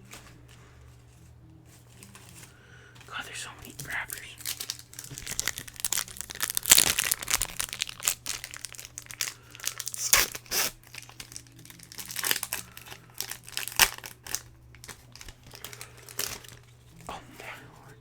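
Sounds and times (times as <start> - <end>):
plastic wrappers crinkling: 0.0 - 17.1.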